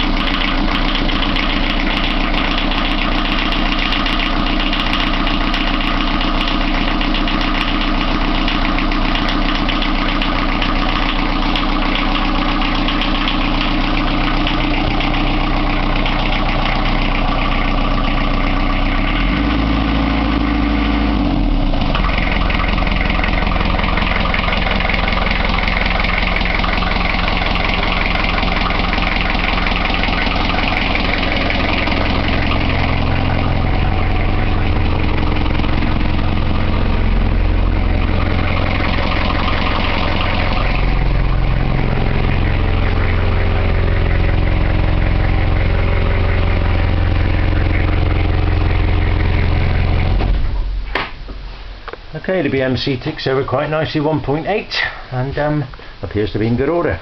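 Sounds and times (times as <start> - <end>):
diesel engine ticking over: 0.0 - 57.0.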